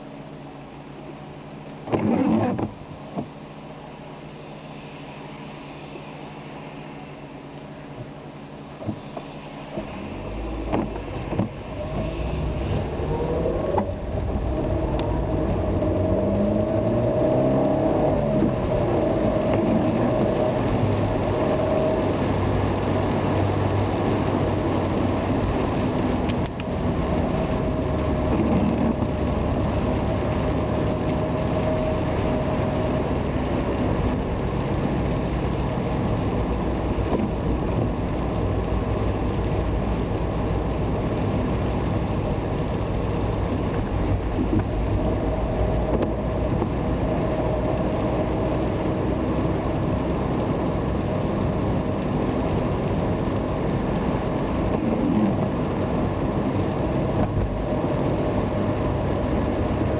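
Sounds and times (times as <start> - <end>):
road noise: 0.0 - 59.9
car engine accelerating: 3.8 - 59.9.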